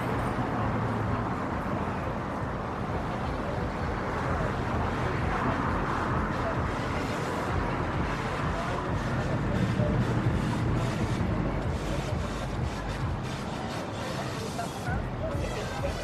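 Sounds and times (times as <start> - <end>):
low engine hum: 0.0 - 14.4
traffic noise: 0.0 - 16.0.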